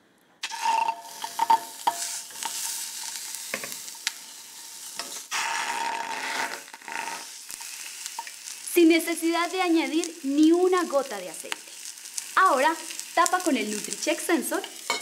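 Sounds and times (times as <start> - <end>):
chicken sizzling in a pan: 0.4 - 15.0.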